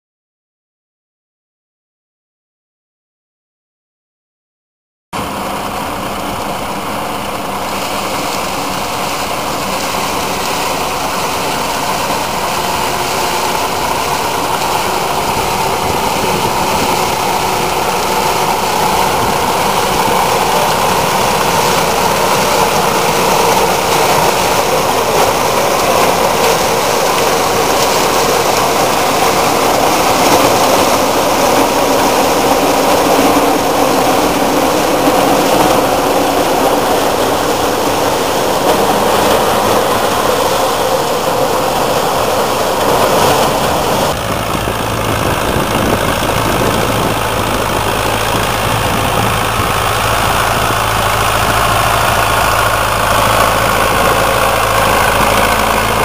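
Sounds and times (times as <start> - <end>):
tractor engine: 5.1 - 56.0
combine harvester machinery: 5.2 - 56.0.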